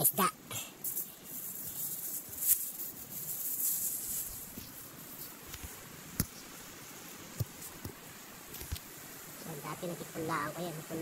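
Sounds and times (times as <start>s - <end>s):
leafy plants rustling: 0.0s - 9.4s.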